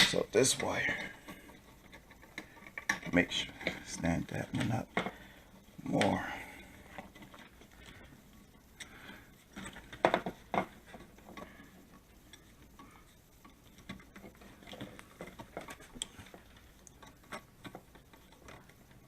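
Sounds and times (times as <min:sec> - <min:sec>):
clicks taps and scrapes: 0:00.0 - 0:06.2, 0:08.8 - 0:19.0.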